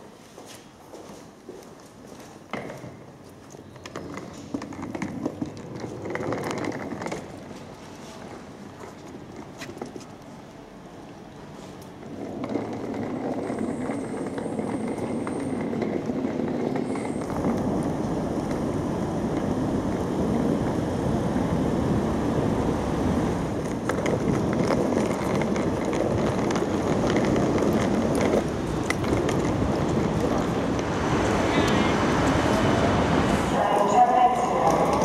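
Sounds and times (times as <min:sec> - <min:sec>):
rumble of city traffic: 0:00.0 - 0:35.0.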